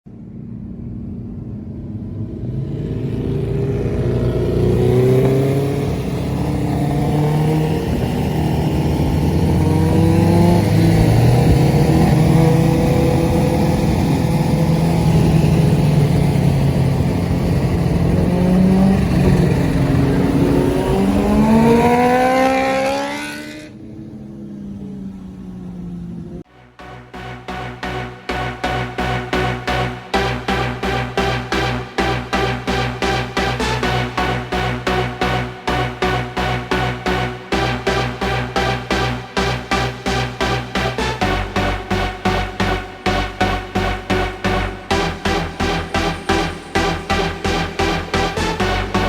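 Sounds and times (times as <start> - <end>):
motorcycle engine accelerating: 0.1 - 49.0.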